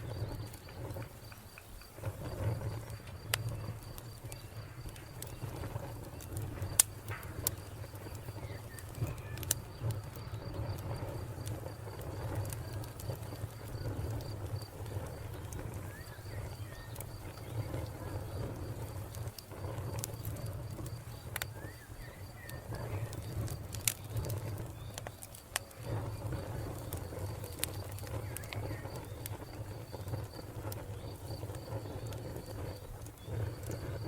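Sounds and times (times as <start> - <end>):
cricket chirping: 0.0 - 34.0
wood fire crackling: 0.0 - 34.0.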